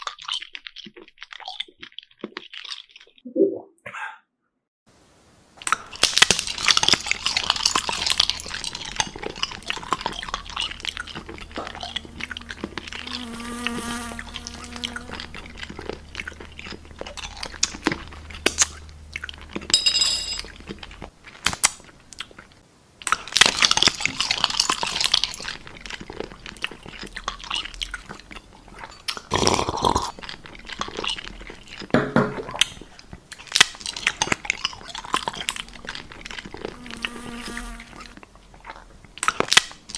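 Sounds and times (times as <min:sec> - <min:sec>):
crunchy chewing: 0:00.0 - 0:03.2, 0:05.6 - 0:19.7, 0:20.4 - 0:39.9.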